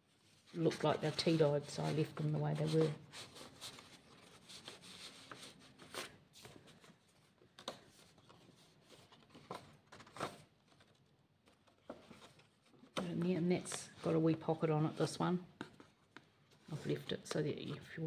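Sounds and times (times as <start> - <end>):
paper rustling: 0.0 - 17.3.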